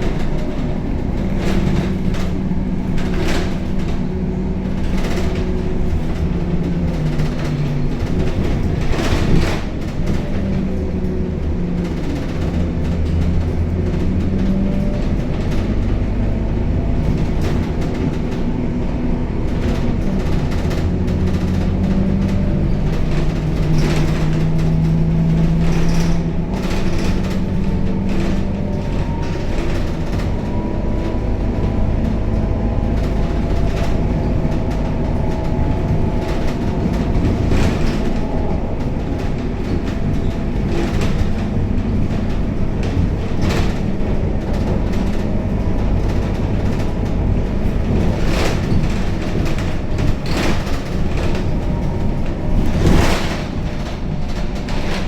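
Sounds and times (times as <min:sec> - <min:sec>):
bus diesel engine drone: 0:00.0 - 0:55.0
rattles and knocks of bus body: 0:00.0 - 0:55.0
whining drivetrain: 0:00.0 - 0:55.0.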